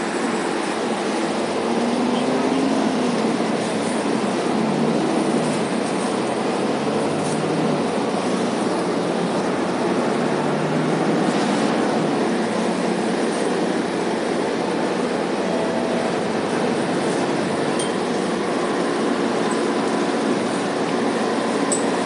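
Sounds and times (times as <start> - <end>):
bus diesel engine: 0.0 - 22.0
road noise: 0.0 - 22.0.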